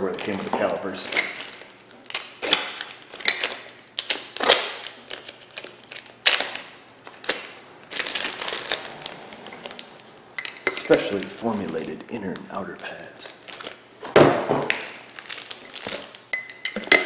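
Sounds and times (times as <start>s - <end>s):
plastic bag crinkling: 0.0s - 13.9s, 14.7s - 16.3s.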